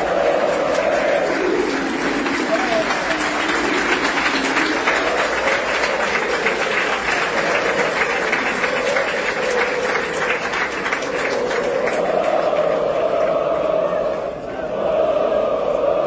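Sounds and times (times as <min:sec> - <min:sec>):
crowd clapping: 0:00.0 - 0:14.5
crowd singing a chant: 0:00.0 - 0:16.0.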